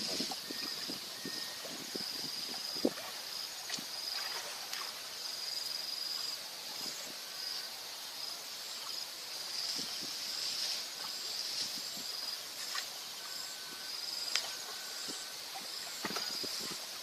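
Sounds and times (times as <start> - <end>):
background hiss: 0.0 - 17.0
insects trilling: 0.0 - 17.0.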